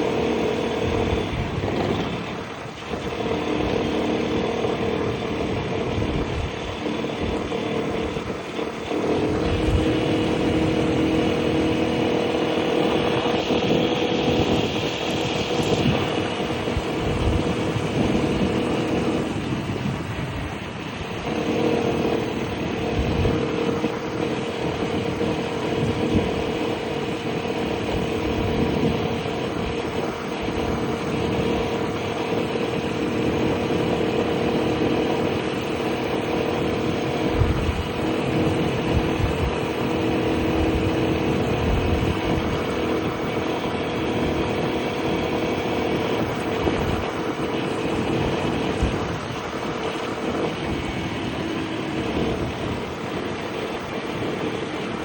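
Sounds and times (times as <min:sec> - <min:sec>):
scooter engine running: 0:00.0 - 0:55.0
wind rumbling on microphone: 0:00.0 - 0:55.0.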